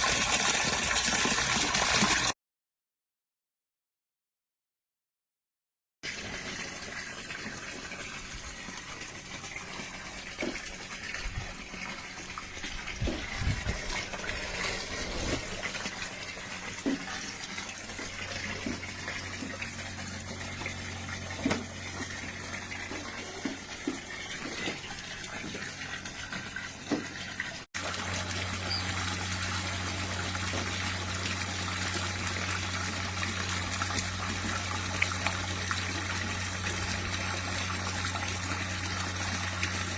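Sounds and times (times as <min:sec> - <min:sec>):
water pouring into a hot tub: 0:00.0 - 0:02.4, 0:06.0 - 0:39.9.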